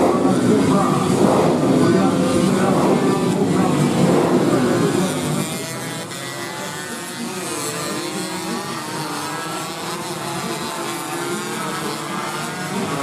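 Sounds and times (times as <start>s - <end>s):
racing motorcycles engines: 0.0s - 13.0s.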